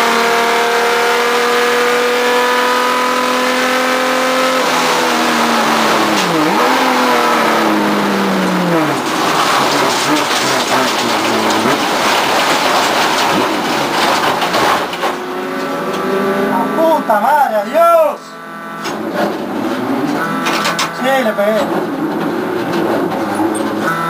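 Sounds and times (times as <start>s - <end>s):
race car engine at high revs: 0.0s - 24.0s.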